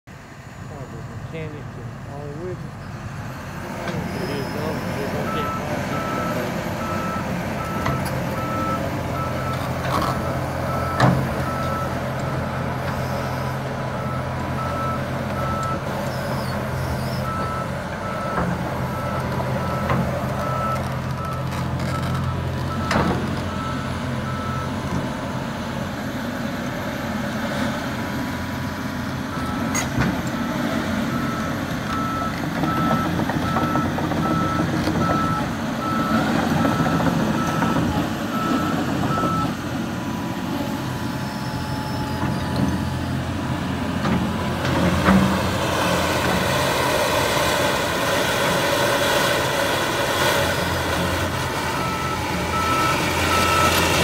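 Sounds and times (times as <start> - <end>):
excavator diesel engine: 0.1 - 54.0.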